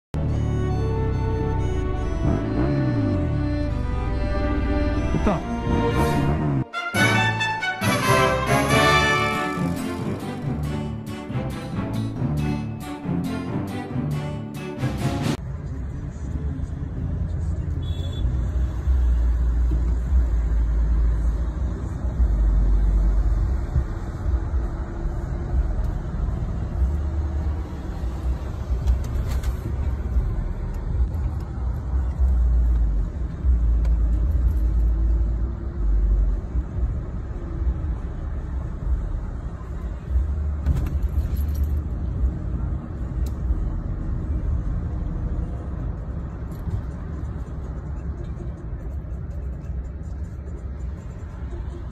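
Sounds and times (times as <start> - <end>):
road noise inside moving car: 0.1 - 6.7, 15.3 - 51.9.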